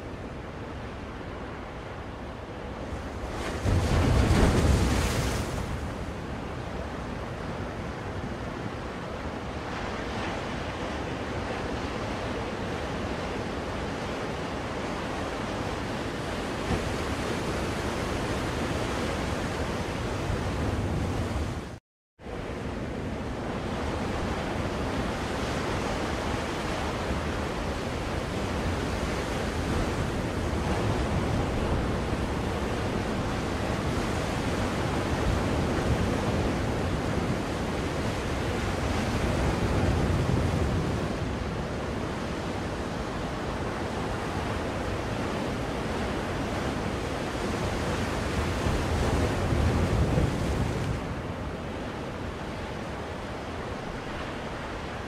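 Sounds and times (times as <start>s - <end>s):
waves breaking: 2.7s - 21.8s, 23.4s - 55.0s.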